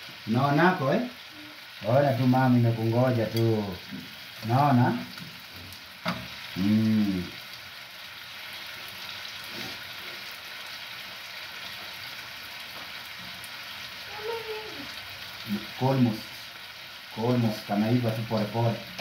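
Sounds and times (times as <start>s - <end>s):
food sizzling in pans: 0.0s - 19.0s.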